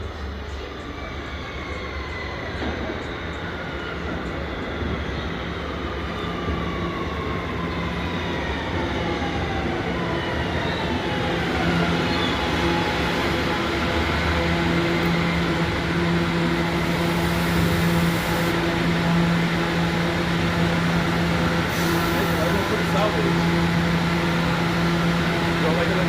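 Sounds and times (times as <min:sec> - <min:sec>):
subway train rumble: 0:00.0 - 0:26.0
train propulsion whine: 0:01.0 - 0:26.0.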